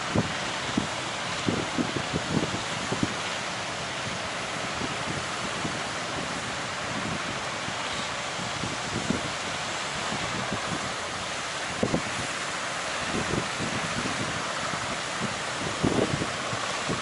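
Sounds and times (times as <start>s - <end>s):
heavy surf breaking: 0.0s - 17.0s
wind buffeting microphone: 0.0s - 17.0s.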